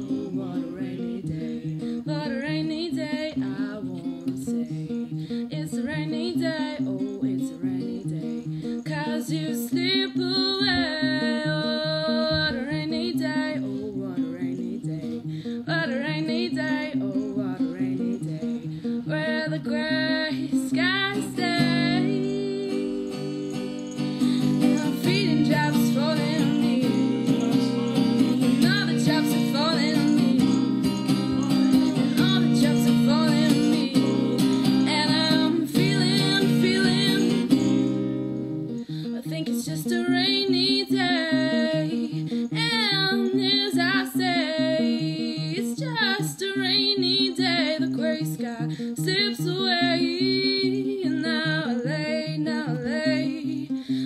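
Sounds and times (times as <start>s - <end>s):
person singing: 0.0s - 54.0s
plucked guitar: 0.0s - 54.0s.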